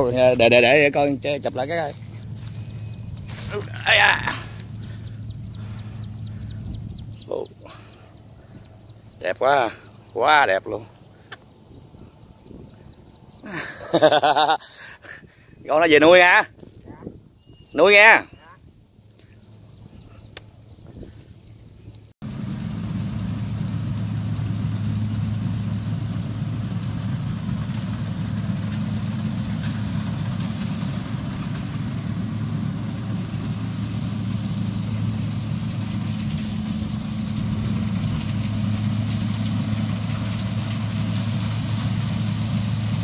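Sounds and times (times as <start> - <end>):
combine harvester diesel engine: 0.0 - 14.4, 22.2 - 43.0.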